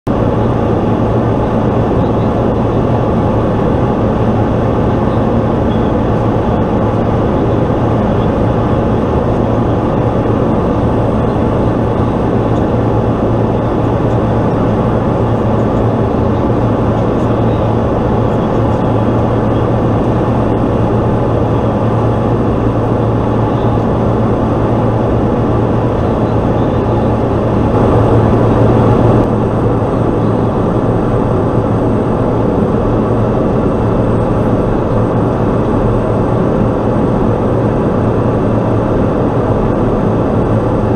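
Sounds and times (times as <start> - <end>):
turboprop engine drone: 0.0 - 40.9
rushing air noise: 6.2 - 39.4.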